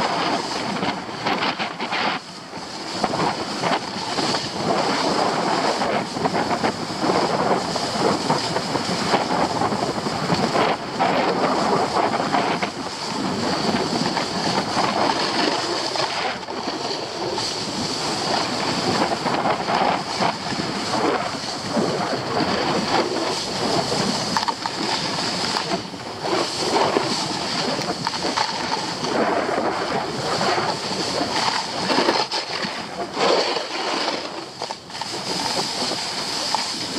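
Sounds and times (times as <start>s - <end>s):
skis scraping on packed snow: 0.0s - 36.9s
wind rushing over microphone: 0.0s - 36.9s.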